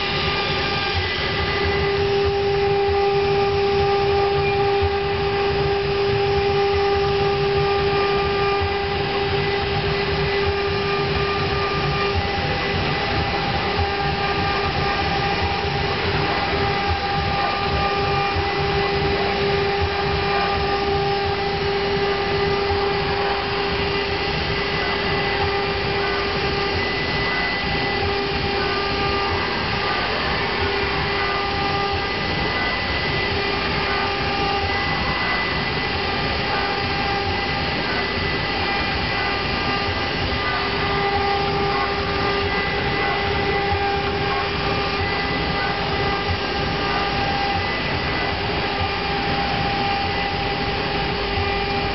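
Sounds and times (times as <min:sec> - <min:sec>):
router cutting wood: 0:00.0 - 0:51.9.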